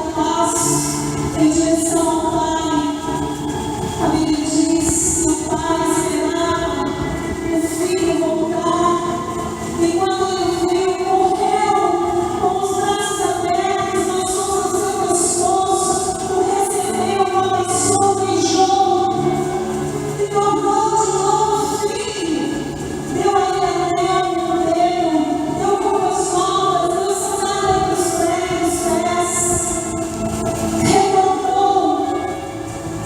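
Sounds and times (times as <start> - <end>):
church choir singing: 0.0 - 33.0
sustained musical accompaniment: 0.0 - 33.0.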